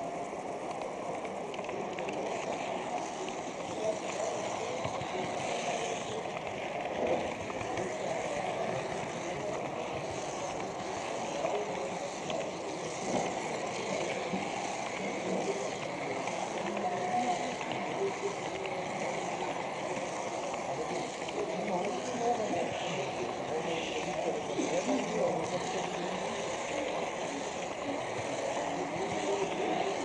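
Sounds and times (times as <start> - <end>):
faint voices: 0.0 - 30.0
model train rolling on track: 0.0 - 30.0.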